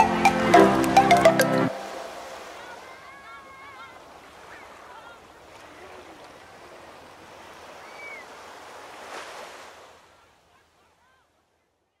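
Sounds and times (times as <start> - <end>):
ocean waves washing ashore: 0.0 - 11.2.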